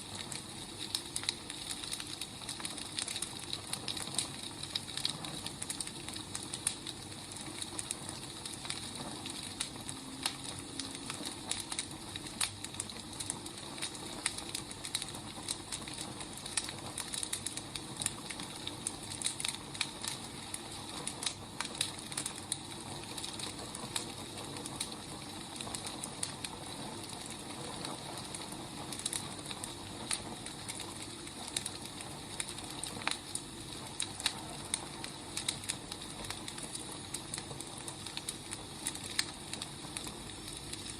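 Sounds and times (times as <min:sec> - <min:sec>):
firewood burning and crackling: 0:00.0 - 0:40.9.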